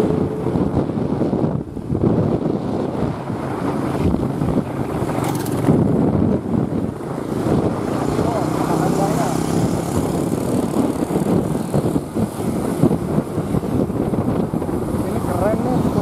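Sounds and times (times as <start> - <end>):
motorbike ride rumble: 0.0 - 16.0
passing traffic: 0.0 - 16.0
wind buffeting microphone: 0.0 - 16.0.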